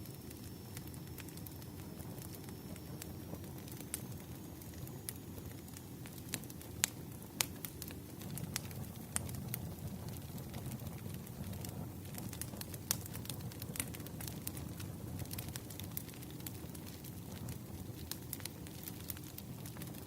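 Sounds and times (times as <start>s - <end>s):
burning logs popping: 0.0s - 20.0s
wood fire crackling: 0.0s - 20.0s.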